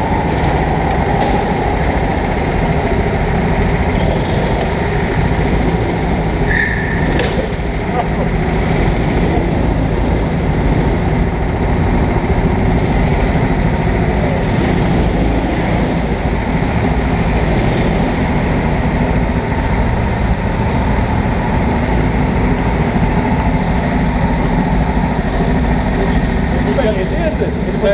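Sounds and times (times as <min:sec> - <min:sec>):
go-kart engines rumbling: 0:00.0 - 0:27.9.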